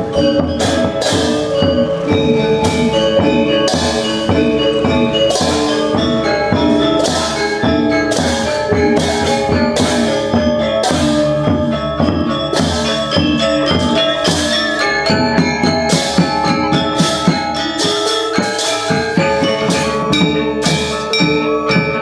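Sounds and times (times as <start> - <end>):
bronze metallophones ringing: 0.0 - 22.0.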